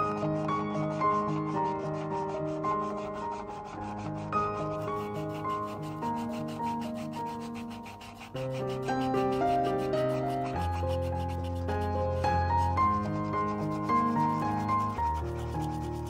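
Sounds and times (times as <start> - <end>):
marker scrubbing on tape and paper: 0.0 - 16.0
soft background music: 0.0 - 16.0.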